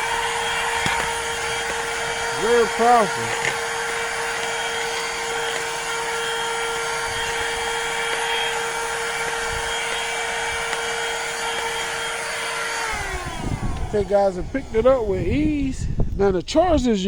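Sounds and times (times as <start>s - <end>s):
handheld vacuum cleaner running: 0.0s - 15.8s.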